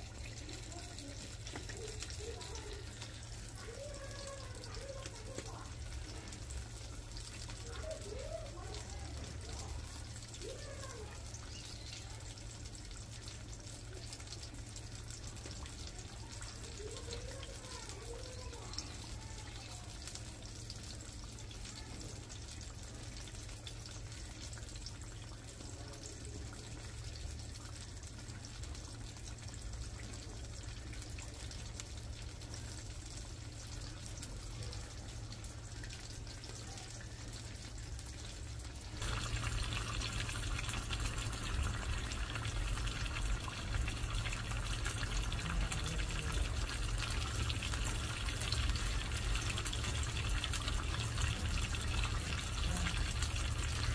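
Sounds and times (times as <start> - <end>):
fish sizzling in hot oil: 0.0 - 53.9.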